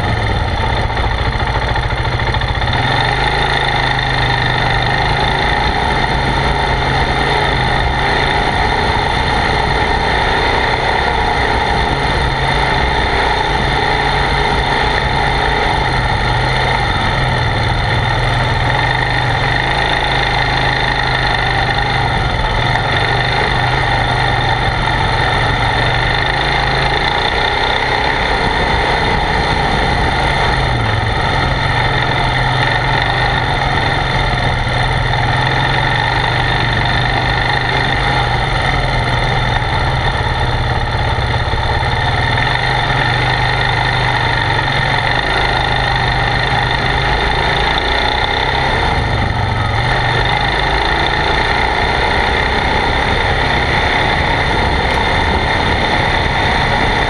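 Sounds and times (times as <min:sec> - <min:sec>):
constant rushing noise: 0:00.0 - 0:57.0
quad bike engine running: 0:00.0 - 0:57.0.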